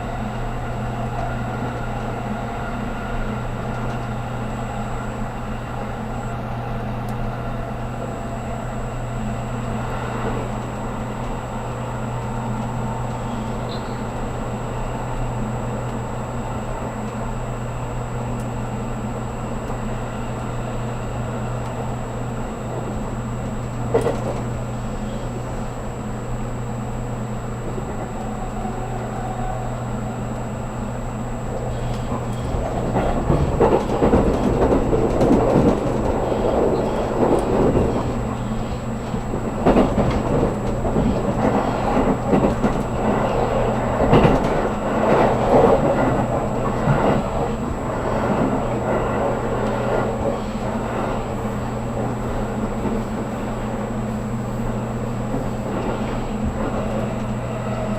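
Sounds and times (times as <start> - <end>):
electric train motor hum: 0.0 - 57.9
wheels rumbling on track: 0.0 - 57.9.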